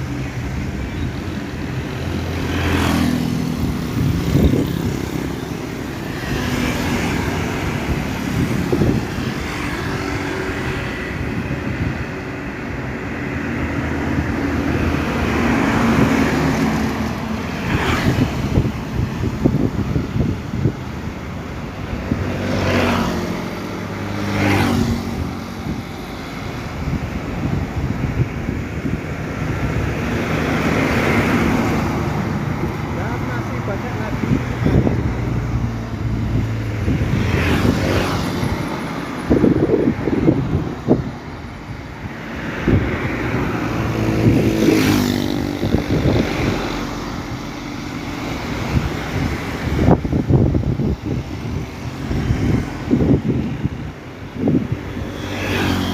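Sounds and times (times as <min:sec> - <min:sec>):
heavy truck engines: 0:00.0 - 0:55.9
wind buffeting microphone: 0:00.0 - 0:55.9.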